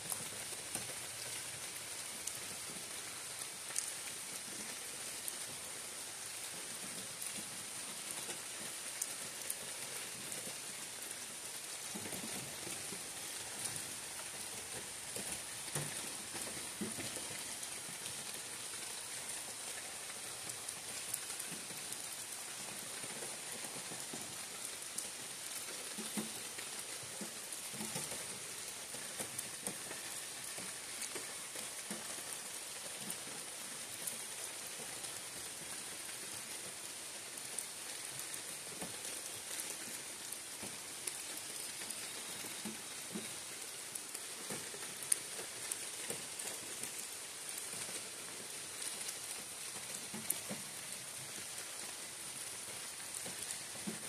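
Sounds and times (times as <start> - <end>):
rain on leafy trees: 0.0 - 54.0
raindrops ticking close by: 0.0 - 54.0.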